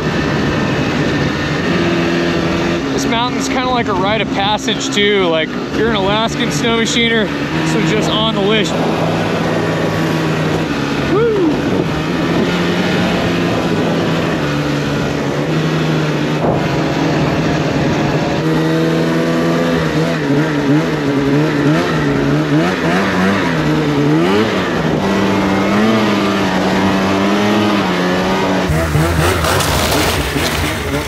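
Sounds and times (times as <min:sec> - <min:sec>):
snowmobile engine revving: 0:00.0 - 0:31.0.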